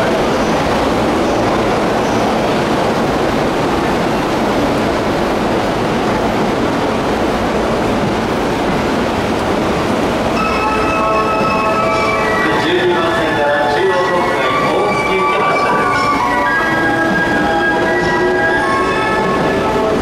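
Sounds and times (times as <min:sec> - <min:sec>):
railway station noise: 0:00.0 - 0:20.0.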